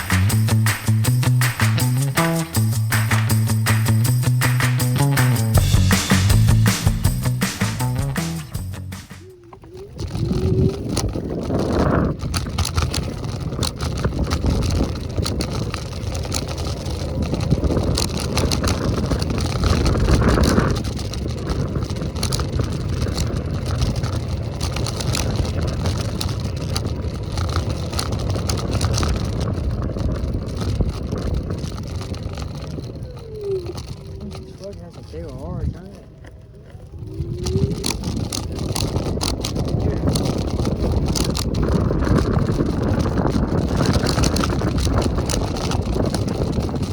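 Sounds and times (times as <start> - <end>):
scooter road rumble: 0.0 - 46.9
wind buffeting microphone: 0.0 - 46.9.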